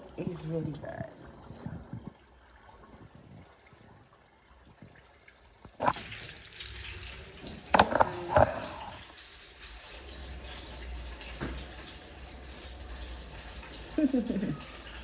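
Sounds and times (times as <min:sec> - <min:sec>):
water running into a sink: 0:00.0 - 0:15.0.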